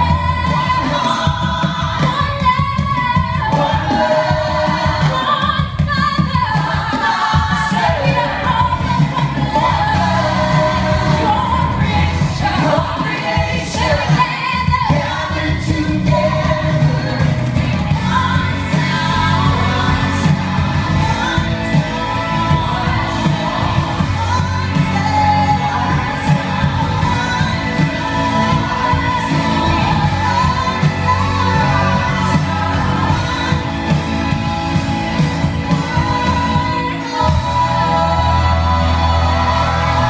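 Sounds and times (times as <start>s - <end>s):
drums: 0.0s - 40.0s
keyboards: 0.0s - 40.0s
people singing: 0.0s - 40.0s.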